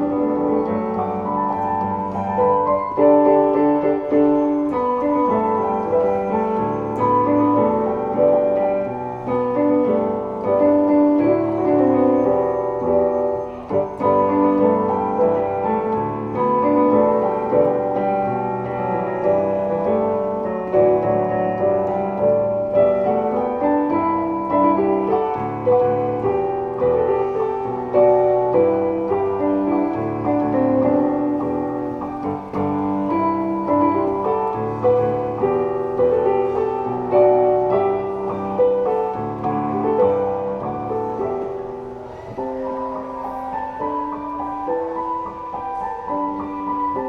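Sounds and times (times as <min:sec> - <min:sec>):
piano four-hands melody: 0:00.0 - 0:47.0.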